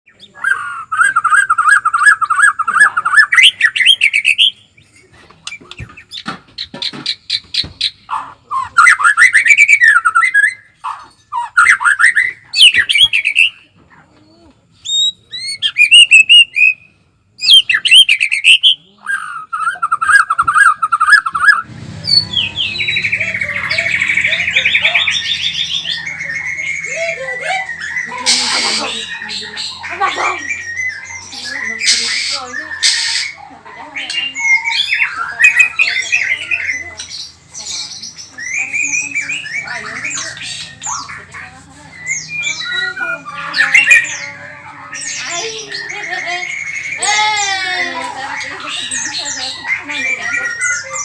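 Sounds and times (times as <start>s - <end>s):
bird singing trills and whistles: 0.1s - 51.0s.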